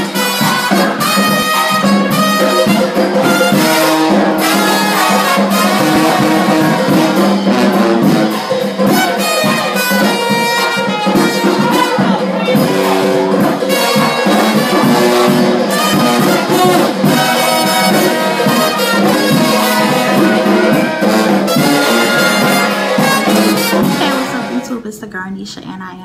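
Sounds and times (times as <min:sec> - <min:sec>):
brass intro music: 0:00.0 - 0:24.8
held horn notes: 0:00.0 - 0:24.9
steady beat: 0:00.0 - 0:25.8.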